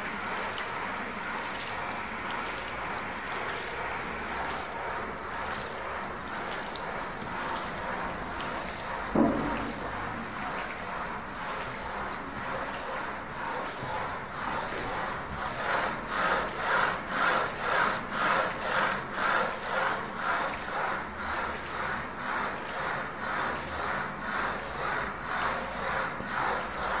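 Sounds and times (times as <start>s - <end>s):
rods rubbing through guides: 4.6s - 27.0s.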